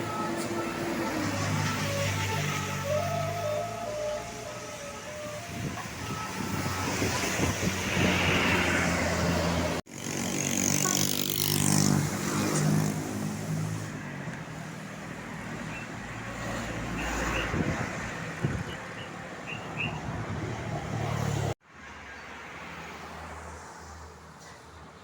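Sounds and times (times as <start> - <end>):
vehicle passing: 0.0 - 18.7, 19.3 - 21.6
road traffic noise: 0.0 - 25.0.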